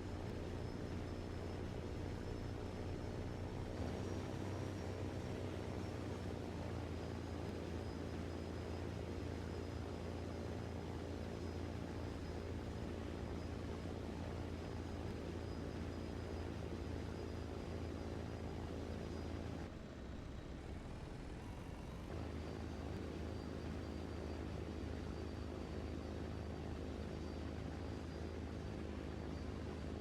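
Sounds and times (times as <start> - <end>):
faint high whine: 0.0 - 30.0
machine droning hum: 0.0 - 30.0.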